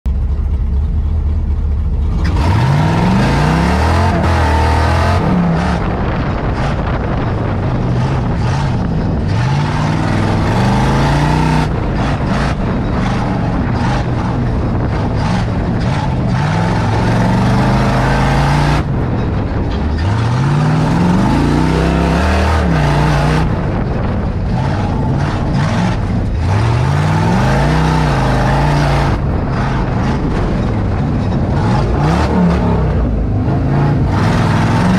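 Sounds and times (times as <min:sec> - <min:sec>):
truck engine revving hard: 0:01.5 - 0:34.9.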